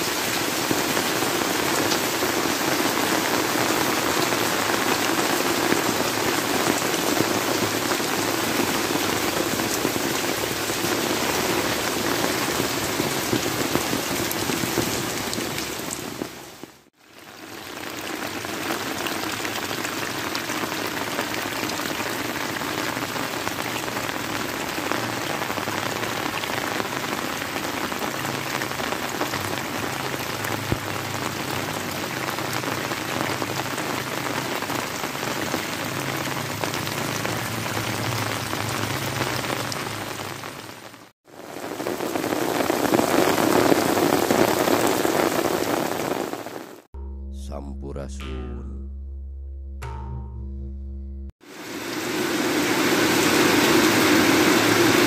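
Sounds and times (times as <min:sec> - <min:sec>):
heavy rain on leaves: 0:00.0 - 0:46.9, 0:51.4 - 0:55.0.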